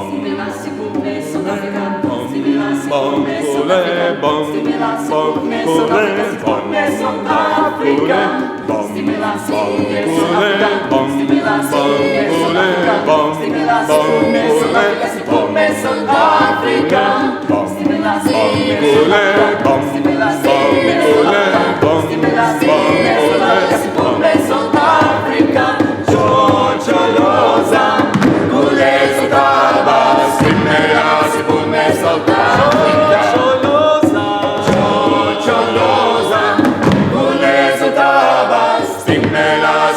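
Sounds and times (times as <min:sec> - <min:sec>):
vocal ensemble singing a cappella: 0:00.0 - 0:39.9.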